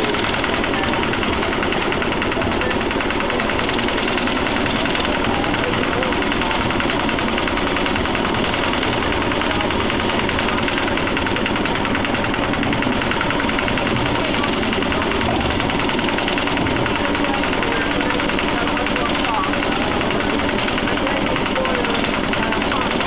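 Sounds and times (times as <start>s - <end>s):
diesel engine knocking: 0.0s - 23.0s
train running on track: 0.0s - 23.0s.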